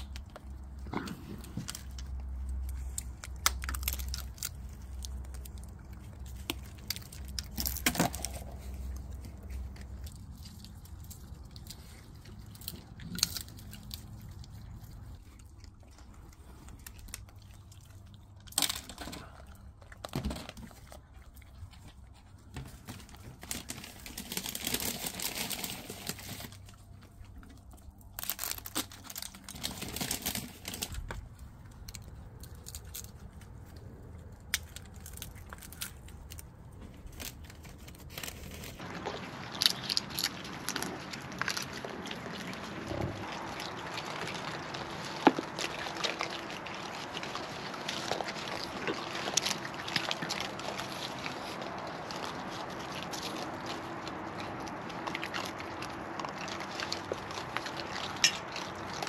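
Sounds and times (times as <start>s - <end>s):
crinkling rustles: 0.0s - 59.0s
raccoons chewing food: 0.0s - 59.0s.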